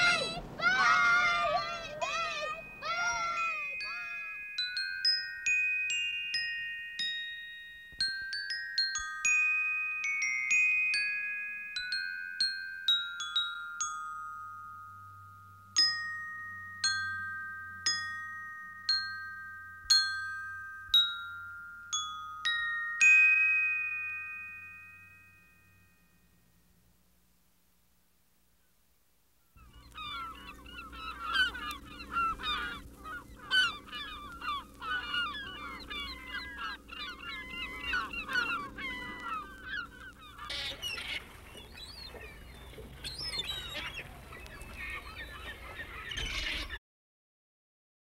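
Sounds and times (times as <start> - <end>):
slow glockenspiel melody: 0.0 - 27.3, 29.6 - 46.6.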